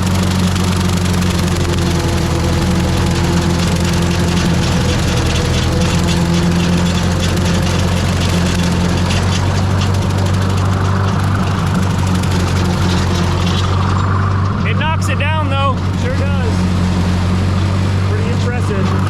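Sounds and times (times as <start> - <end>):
rotary cutter mowing: 0.0 - 19.0
tractor engine under load: 0.0 - 19.0.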